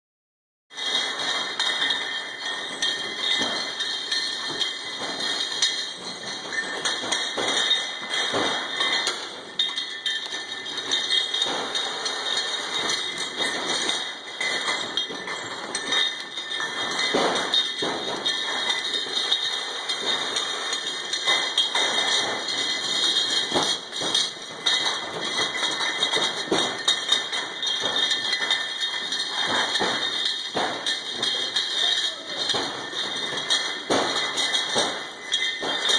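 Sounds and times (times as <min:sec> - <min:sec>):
bottles clinking on conveyor: 0:00.8 - 0:35.9.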